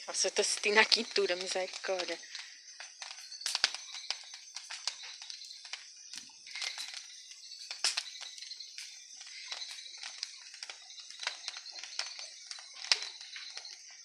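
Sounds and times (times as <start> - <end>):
bonfire crackling: 0.0 - 14.0
sharp fire pops: 0.0 - 14.0.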